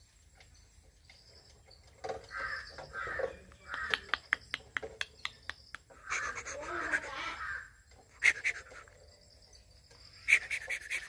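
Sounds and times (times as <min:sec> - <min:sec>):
harsh bird calls: 0:01.2 - 0:11.0.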